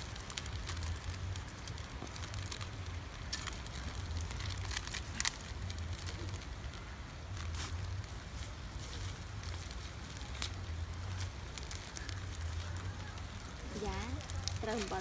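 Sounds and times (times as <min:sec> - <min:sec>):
fire popping and snapping: 0:00.0 - 0:15.0
leaves and twigs fire crackling: 0:00.0 - 0:15.0
low steady rumble: 0:00.0 - 0:15.0.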